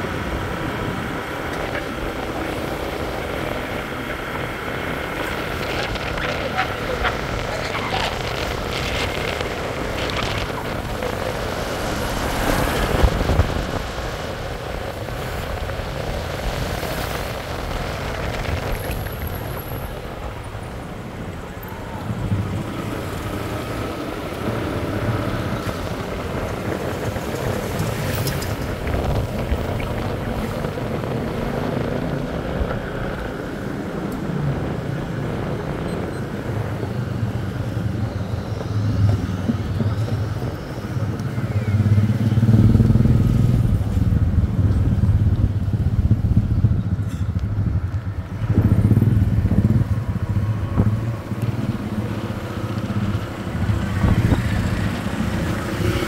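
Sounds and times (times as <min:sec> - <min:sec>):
street traffic noise: 0:00.0 - 0:56.0
vehicles passing: 0:00.0 - 0:56.0.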